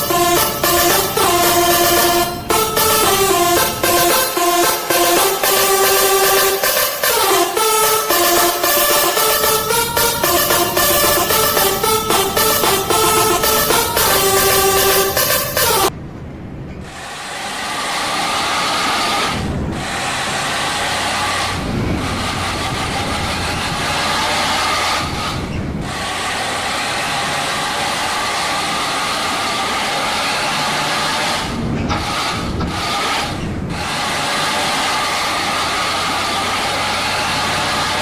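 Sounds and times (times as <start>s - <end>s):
loud rushing traffic: 0.0s - 38.0s
low traffic rumble: 0.0s - 38.0s.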